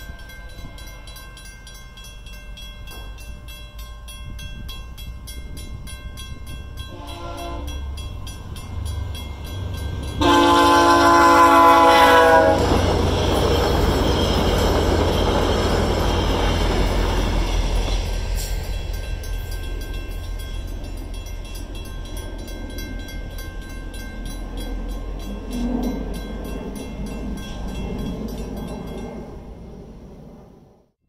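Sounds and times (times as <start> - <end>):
crossing warning bell: 0.0 - 30.1
train coaches rumbling past: 0.0 - 30.8.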